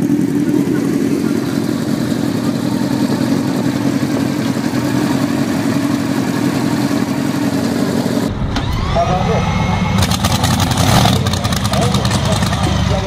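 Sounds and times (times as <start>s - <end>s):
motorcycle engines running steadily: 0.0s - 8.4s, 9.3s - 13.0s.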